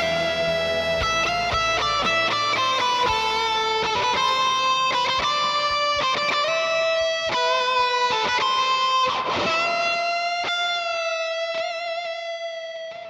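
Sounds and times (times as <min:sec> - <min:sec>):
electric guitar solo: 0:00.0 - 0:13.0.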